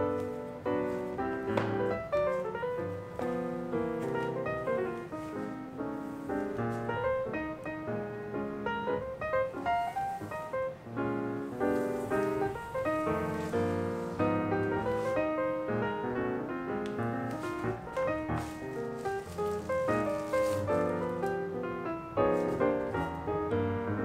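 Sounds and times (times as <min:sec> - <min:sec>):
instrumental piano music: 0:00.0 - 0:24.0.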